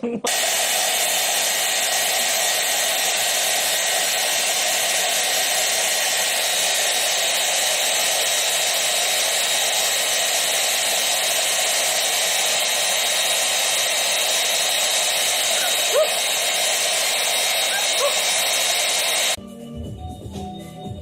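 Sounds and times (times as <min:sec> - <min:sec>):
motor-driven blower whining: 0:00.3 - 0:19.4.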